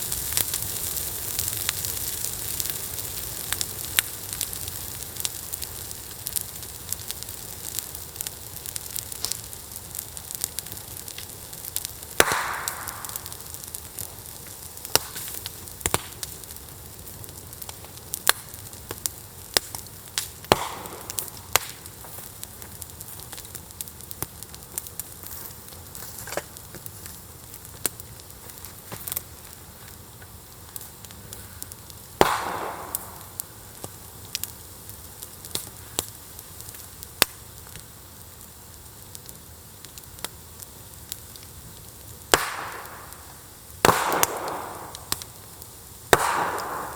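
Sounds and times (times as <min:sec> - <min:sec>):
fire hissing: 0:00.0 - 0:46.9
fire popping and snapping: 0:00.0 - 0:46.9
wood fire crackling: 0:00.0 - 0:46.9.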